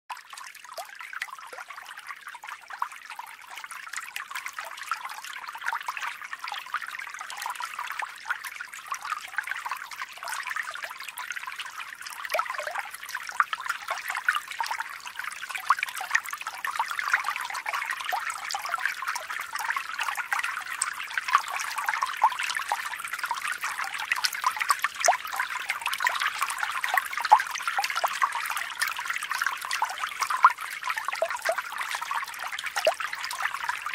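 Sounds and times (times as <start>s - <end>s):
water trickling and bubbling: 0.1s - 33.9s.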